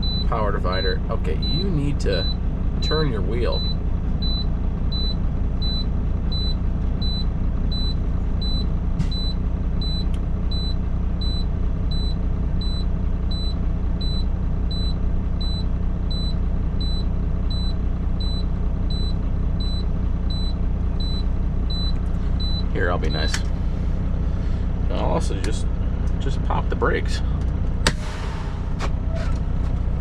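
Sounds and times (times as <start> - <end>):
truck warning alarm beeping: 0.0 - 24.2
diesel engine idling: 0.0 - 30.0.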